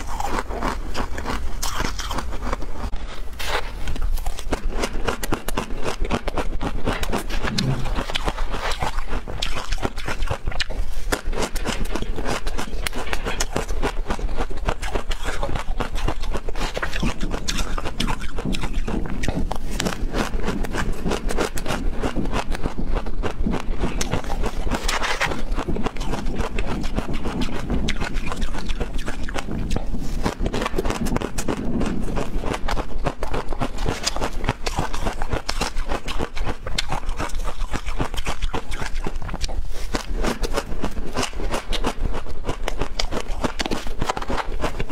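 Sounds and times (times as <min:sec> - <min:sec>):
crunching and chewing food: 0:00.0 - 0:44.9.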